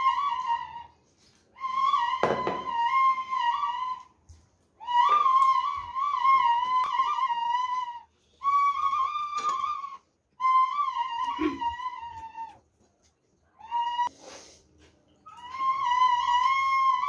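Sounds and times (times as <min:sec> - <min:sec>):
bamboo flute melody: 0:00.0 - 0:14.4, 0:15.2 - 0:17.0.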